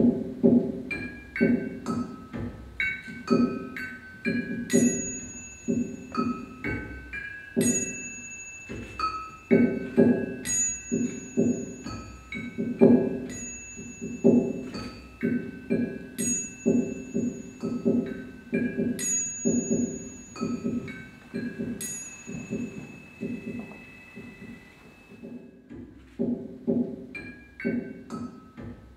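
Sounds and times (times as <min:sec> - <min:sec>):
ringing bell-like tones: 0:00.9 - 0:25.8.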